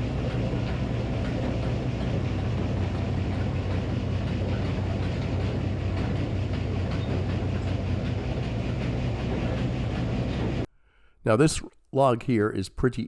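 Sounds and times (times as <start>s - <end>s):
engine droning: 0.0s - 10.7s.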